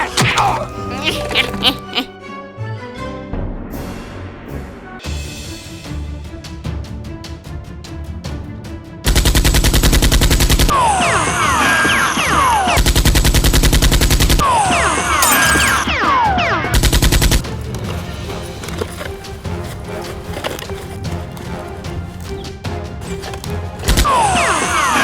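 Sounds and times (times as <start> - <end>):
background music: 0.0 - 12.7, 14.4 - 25.0.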